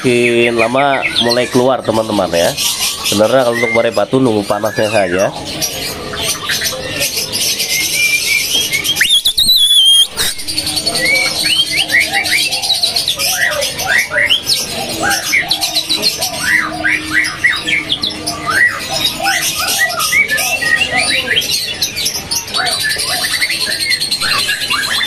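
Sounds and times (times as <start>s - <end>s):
songbirds calling and singing: 0.0s - 25.0s.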